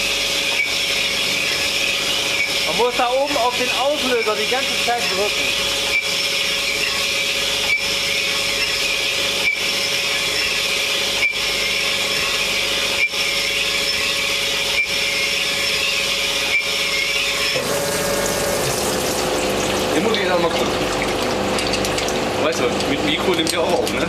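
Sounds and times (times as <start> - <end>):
power tool running: 0.0 - 22.8.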